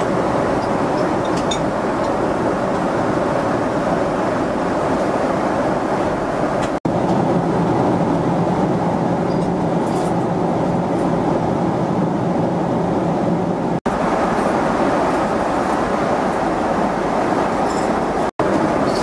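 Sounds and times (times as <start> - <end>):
jet cabin engine drone: 0.0 - 19.0.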